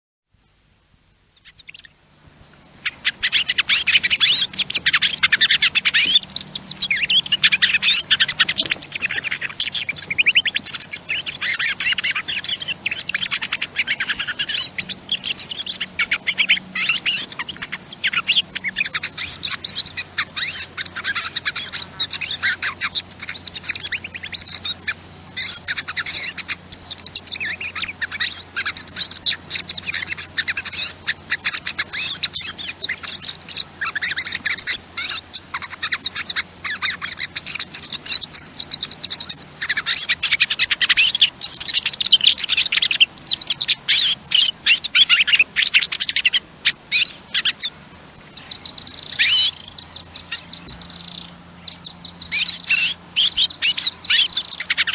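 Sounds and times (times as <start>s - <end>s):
chaffinch chirping and twittering: 1.4s - 2.0s, 2.7s - 54.9s.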